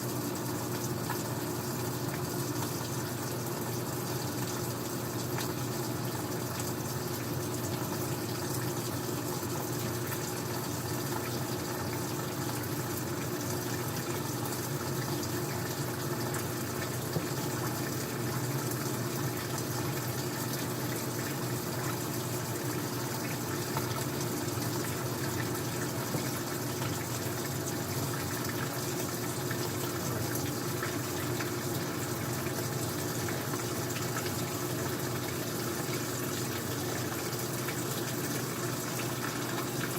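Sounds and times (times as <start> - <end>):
water rushing through washing machine: 0.0 - 39.9.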